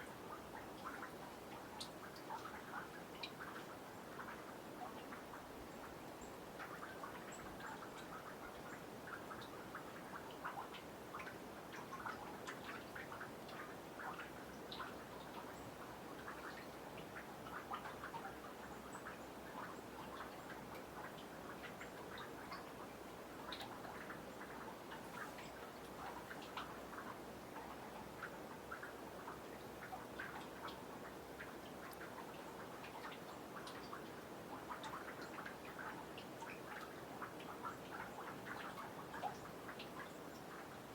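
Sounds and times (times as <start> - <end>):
faint hiss: 0.0 - 40.9
water dripping into pond: 0.0 - 40.9.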